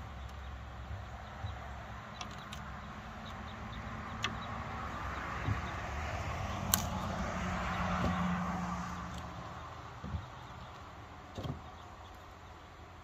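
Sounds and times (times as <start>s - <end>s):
motor vehicle approaching: 0.0s - 13.0s.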